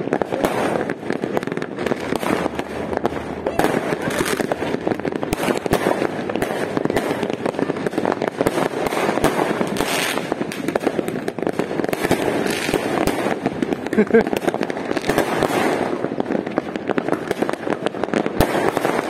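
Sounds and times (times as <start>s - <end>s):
distant fireworks bangs and pops: 0.0s - 19.0s.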